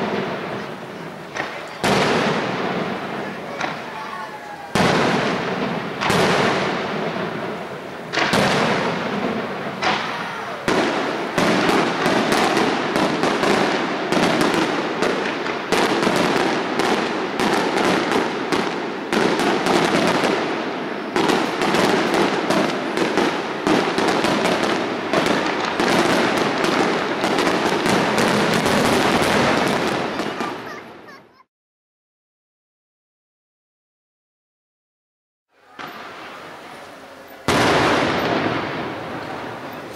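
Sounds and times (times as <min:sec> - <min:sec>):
firework shells bursting: 0:00.0 - 0:31.2, 0:35.6 - 0:39.9.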